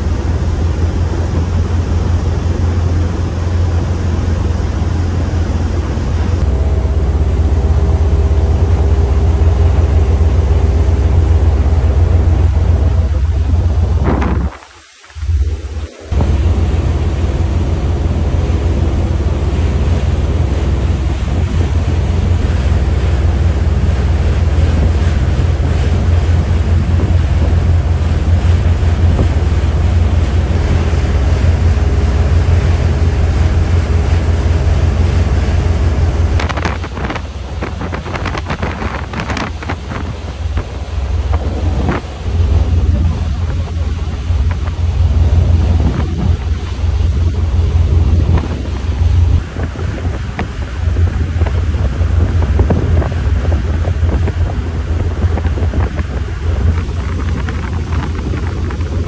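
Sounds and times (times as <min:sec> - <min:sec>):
wake water rushing: 0:00.0 - 0:59.0
wind buffeting microphone: 0:00.0 - 0:59.0.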